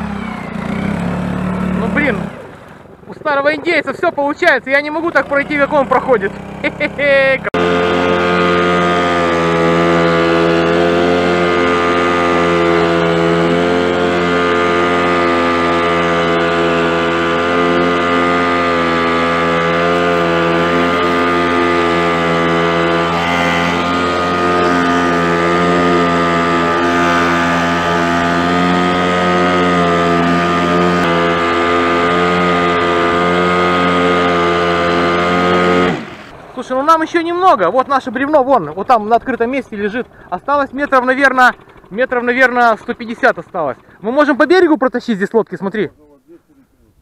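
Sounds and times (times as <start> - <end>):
small outboard motor droning: 0.0 - 45.0.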